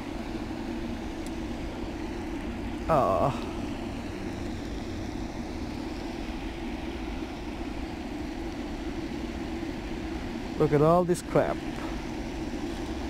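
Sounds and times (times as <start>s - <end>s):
outdoor background rumble and hiss: 0.0s - 13.0s.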